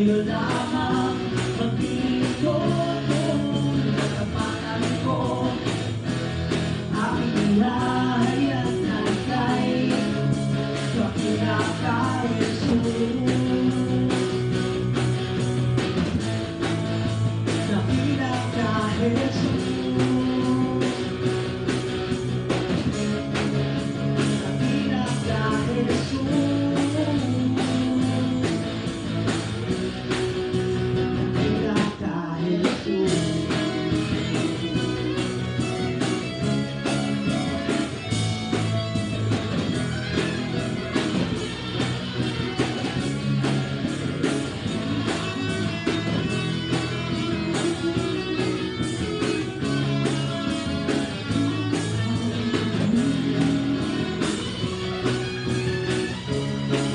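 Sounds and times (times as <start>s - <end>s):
rock band guitar music: 0.0s - 56.9s.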